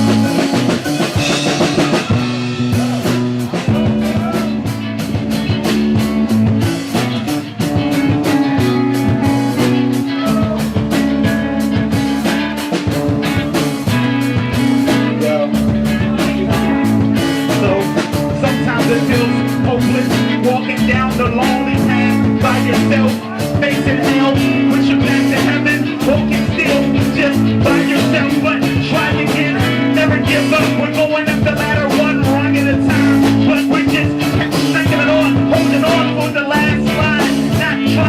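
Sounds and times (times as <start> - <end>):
drums keeping steady beat: 0.0 - 38.0
live band instrumental groove: 0.0 - 38.0.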